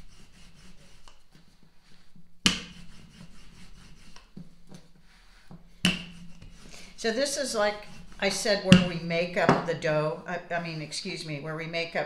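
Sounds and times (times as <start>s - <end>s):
rolling pin rubbing dough: 0.0s - 9.9s.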